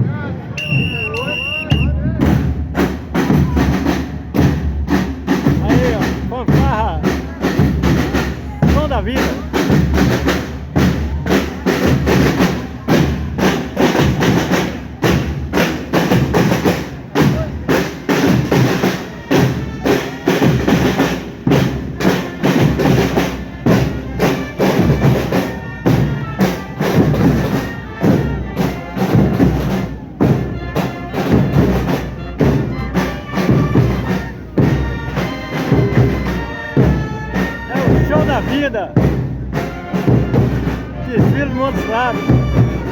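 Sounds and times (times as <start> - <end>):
marching band playing: 0.0 - 42.9
bass and snare drums: 0.5 - 42.9.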